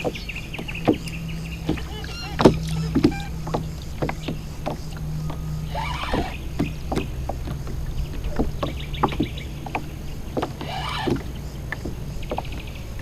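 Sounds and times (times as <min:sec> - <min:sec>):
steady low rumble: 0:00.0 - 0:13.0
water lapping against kayak hull: 0:00.0 - 0:13.0
wind: 0:00.0 - 0:13.0.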